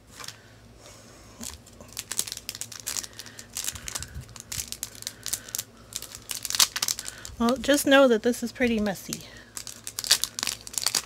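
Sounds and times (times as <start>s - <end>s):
packet crinkling: 1.4s - 7.8s, 8.6s - 11.0s.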